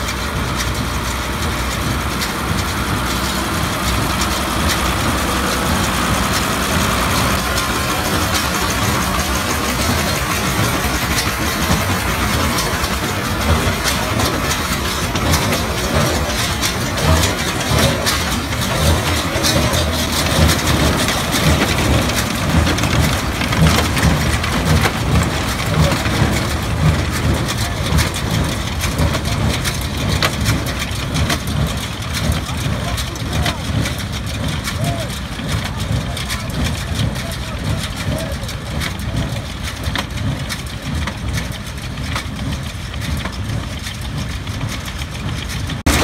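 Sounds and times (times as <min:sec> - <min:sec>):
hay baler clattering: 0:00.0 - 0:46.0
low thuds from baler pressing: 0:00.0 - 0:46.0
tractor engine running under load: 0:00.0 - 0:46.0.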